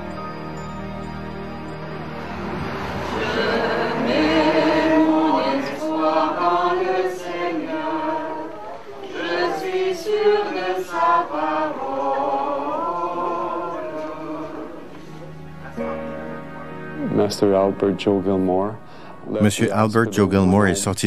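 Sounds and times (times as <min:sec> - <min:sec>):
choir singing: 0:00.0 - 0:18.6.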